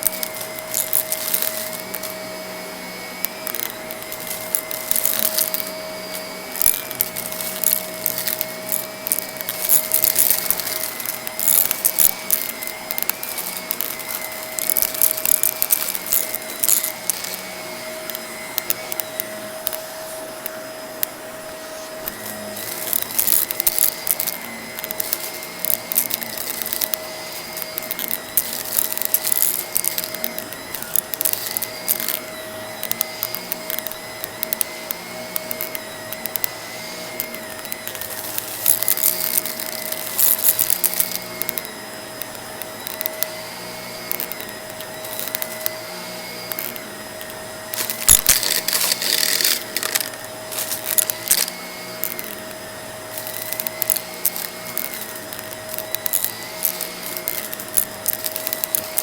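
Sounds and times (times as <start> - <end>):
debris crackling in vacuum: 0.0 - 21.1, 21.9 - 43.3, 44.0 - 59.0
vacuum cleaner running on rug: 0.0 - 59.0.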